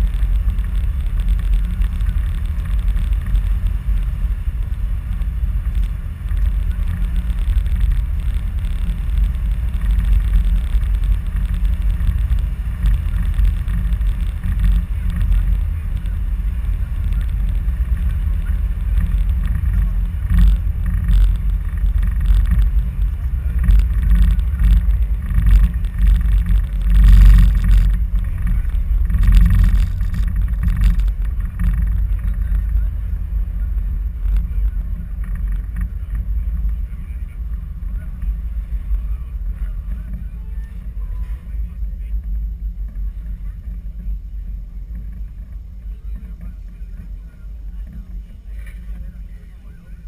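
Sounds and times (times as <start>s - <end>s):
wind buffeting microphone: 0.0s - 49.1s.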